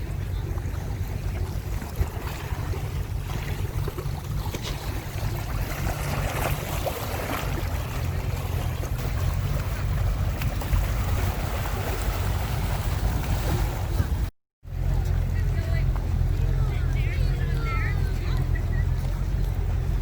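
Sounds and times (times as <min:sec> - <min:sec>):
lake water washing on shore: 0:00.0 - 0:20.0
wind buffeting microphone: 0:00.0 - 0:20.0.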